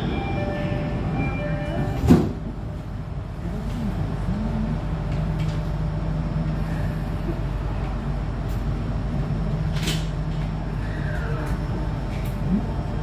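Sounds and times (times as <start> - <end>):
train car hum and drone: 0.0 - 13.0.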